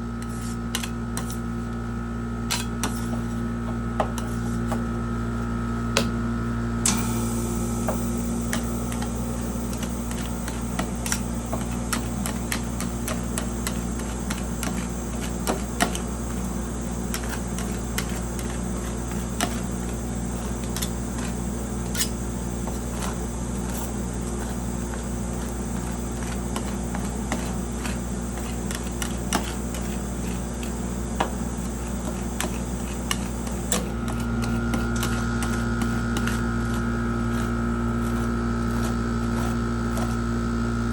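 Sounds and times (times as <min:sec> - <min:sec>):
steady machine hum: 0:00.0 - 0:40.9.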